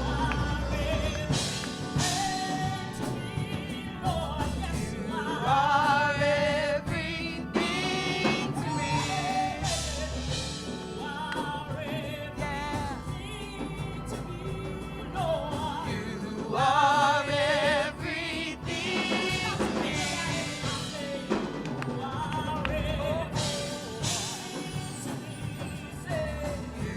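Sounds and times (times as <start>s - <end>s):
gospel singing with accompaniment: 0.0s - 26.9s.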